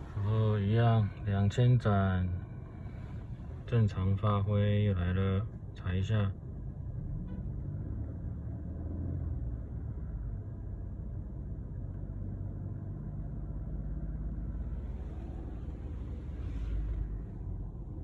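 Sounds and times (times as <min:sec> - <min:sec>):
car engine rumble inside cabin: 0:00.0 - 0:18.0.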